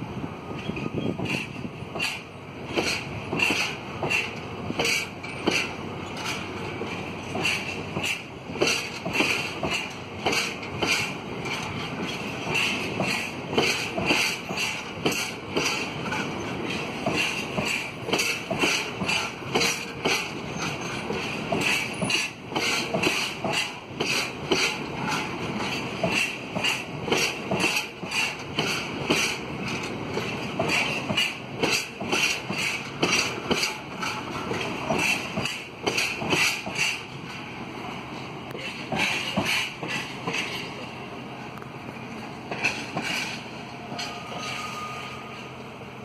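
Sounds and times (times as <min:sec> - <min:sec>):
train wheels clicking over rail joints: 0:00.4 - 0:45.8.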